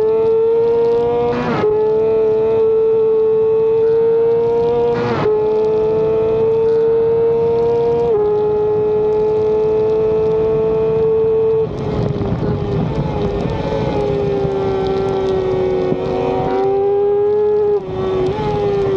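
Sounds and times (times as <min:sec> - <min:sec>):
racing motorcycle engine: 0:00.0 - 0:18.9.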